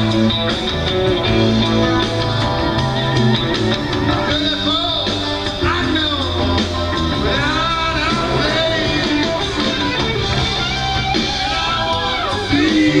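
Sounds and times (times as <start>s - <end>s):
live rock band playing: 0.0s - 13.0s
pitch-bending guitar lines: 0.0s - 13.0s.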